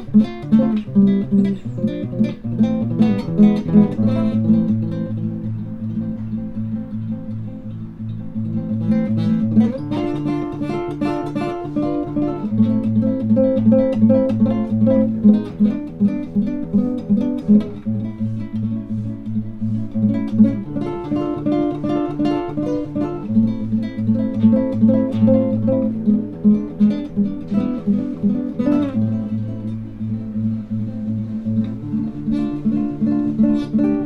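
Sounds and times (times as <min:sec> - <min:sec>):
acoustic guitar music: 0:00.0 - 0:34.0.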